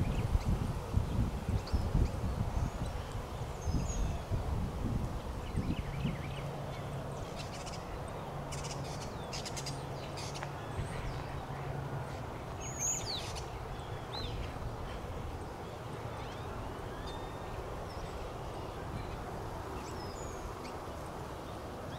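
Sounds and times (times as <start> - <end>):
birds chirping: 0.0 - 4.5, 5.2 - 21.9.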